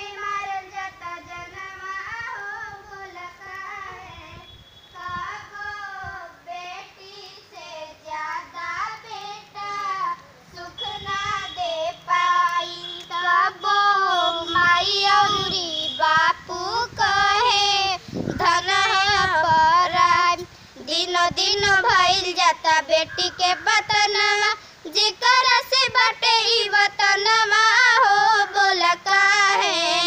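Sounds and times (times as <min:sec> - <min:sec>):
girl singing slow song: 0:00.0 - 0:30.0.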